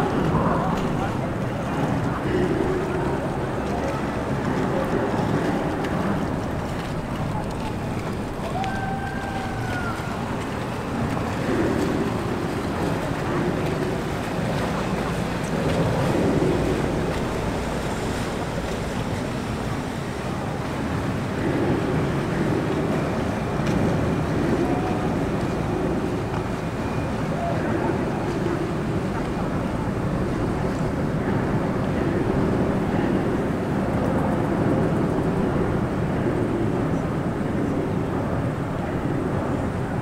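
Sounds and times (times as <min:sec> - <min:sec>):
motorboat running past: 0:00.0 - 0:40.0
water wash: 0:00.0 - 0:40.0
wind: 0:00.0 - 0:40.0.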